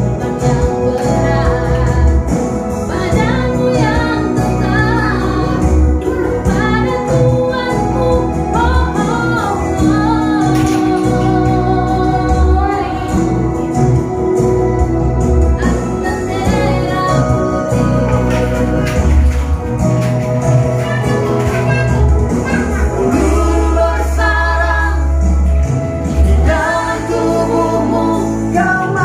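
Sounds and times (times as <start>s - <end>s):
woman singing: 0.0s - 14.7s, 15.5s - 19.9s, 20.5s - 29.0s
backing music: 0.0s - 29.0s.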